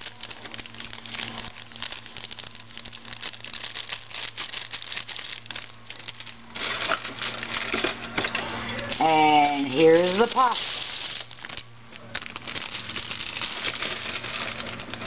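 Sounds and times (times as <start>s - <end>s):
plastic packet crinkling: 0.0s - 15.0s.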